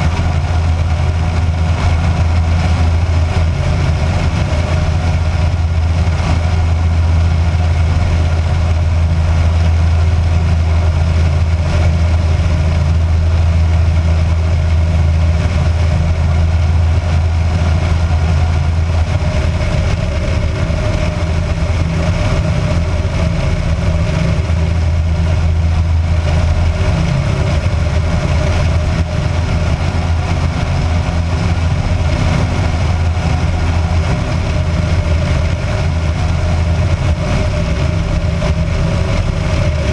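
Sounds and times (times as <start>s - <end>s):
light aircraft engine drone: 0.0s - 39.9s
rushing air noise: 0.0s - 39.9s.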